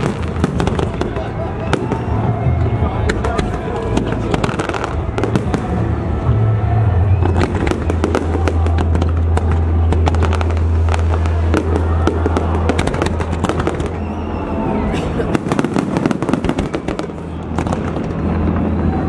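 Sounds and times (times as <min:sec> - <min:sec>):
fireworks bursting: 0:00.0 - 0:14.6, 0:15.2 - 0:19.0.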